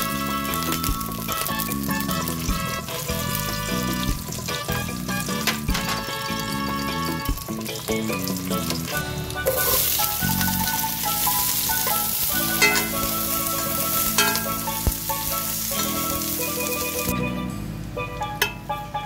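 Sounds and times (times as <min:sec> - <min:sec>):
onion sizzling in hot oil: 0:00.0 - 0:17.1
background music: 0:00.0 - 0:19.0.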